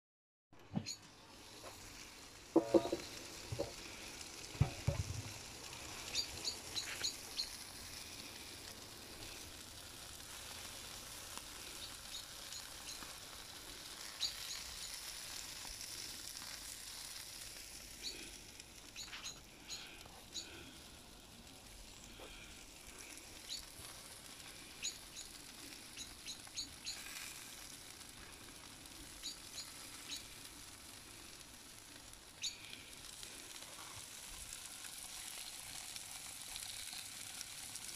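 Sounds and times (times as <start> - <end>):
meat sizzling on grill: 0.8 - 37.9.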